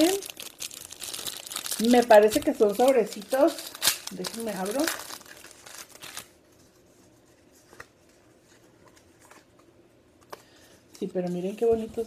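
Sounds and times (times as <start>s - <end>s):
packaging rustling: 0.0s - 10.4s.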